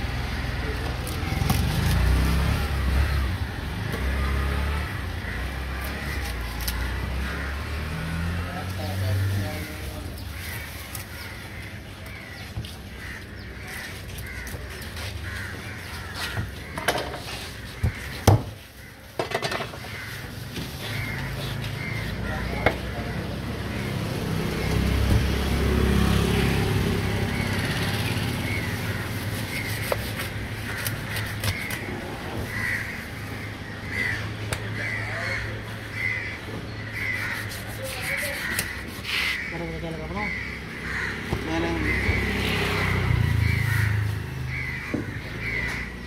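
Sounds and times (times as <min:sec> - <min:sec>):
crows cawing: 0:00.3 - 0:46.0.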